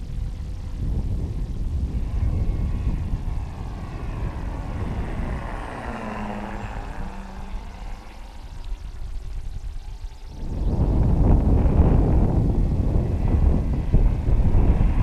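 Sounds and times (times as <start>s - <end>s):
model plane flying past: 0.0s - 15.0s.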